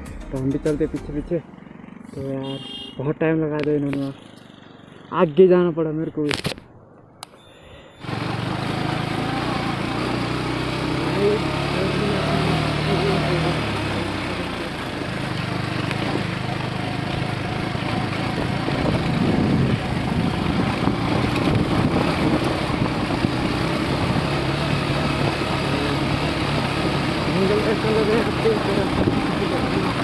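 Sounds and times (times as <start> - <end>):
motorcycle engine running: 0.0 - 5.3, 8.0 - 30.0.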